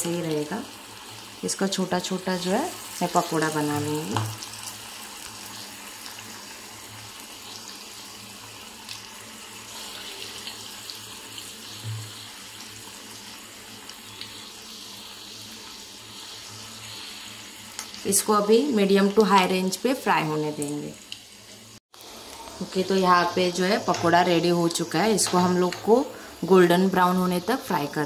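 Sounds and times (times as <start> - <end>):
food sizzling in bubbling oil: 0.0 - 28.0.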